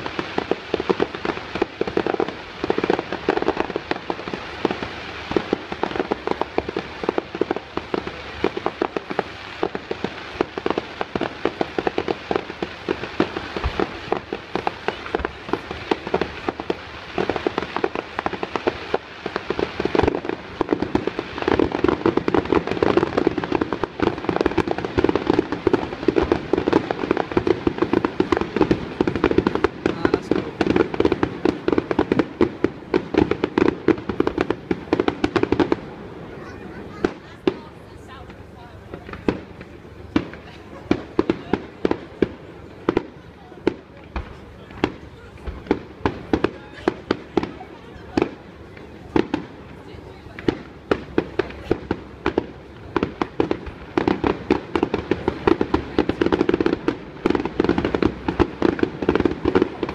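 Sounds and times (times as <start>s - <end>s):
fireworks cracking and popping: 0.0s - 59.9s.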